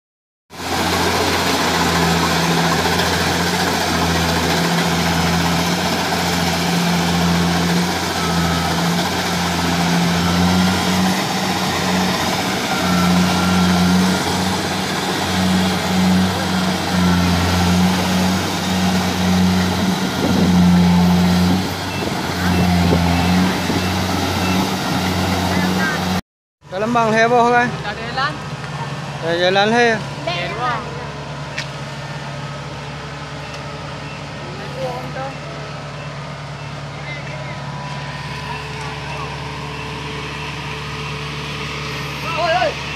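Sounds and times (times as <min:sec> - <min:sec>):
diesel engine running under load: 0:00.5 - 0:42.9.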